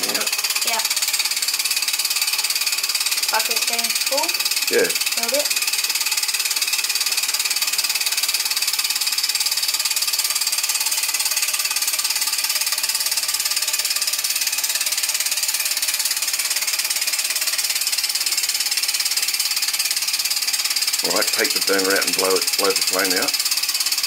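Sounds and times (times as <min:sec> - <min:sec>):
model steam engine rattling: 0:00.0 - 0:24.0.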